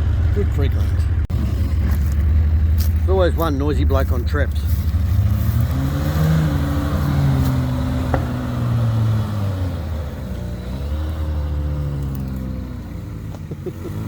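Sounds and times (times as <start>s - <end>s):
vehicle engine working under load: 0.0s - 14.0s.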